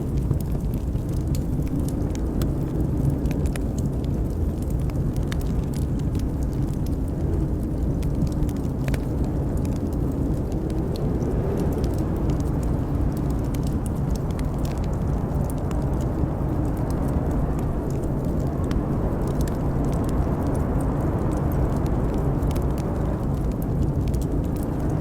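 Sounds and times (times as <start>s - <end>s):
blizzard wind rushing: 0.0s - 25.0s
wood fire crackling: 0.0s - 25.0s.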